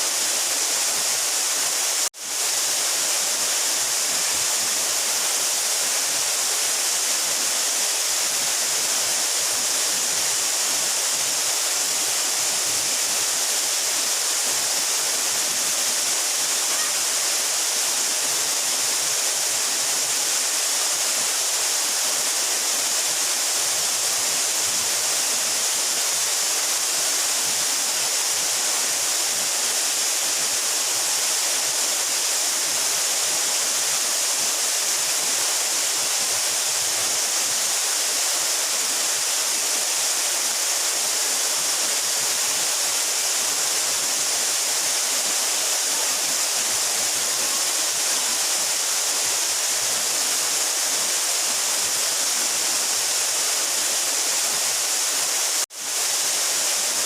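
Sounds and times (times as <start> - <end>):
waterfall pouring into pool: 0.0 - 57.0.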